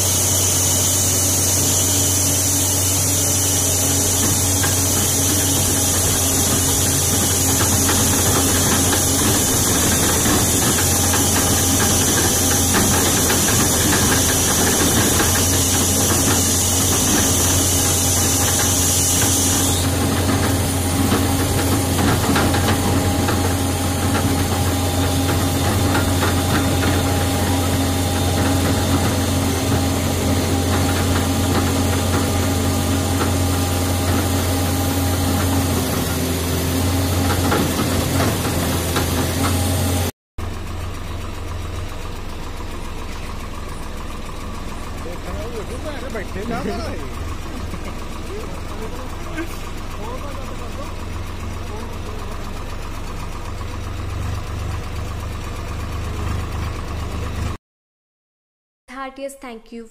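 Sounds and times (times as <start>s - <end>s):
excavator diesel engine running: 0.0s - 57.6s.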